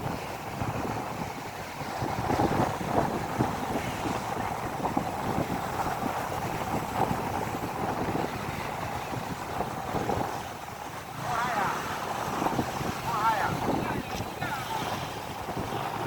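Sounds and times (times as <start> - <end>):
sea surf rushing: 0.0 - 16.0
wind buffeting microphone: 0.0 - 16.0.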